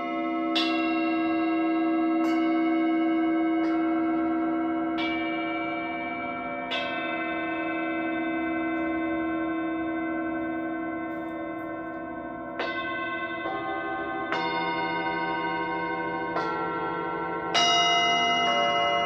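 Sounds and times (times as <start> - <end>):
singing bowls ringing: 0.0 - 19.0.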